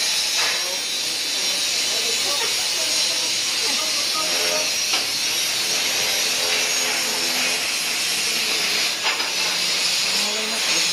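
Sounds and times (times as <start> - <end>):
welding hiss: 0.0 - 10.9.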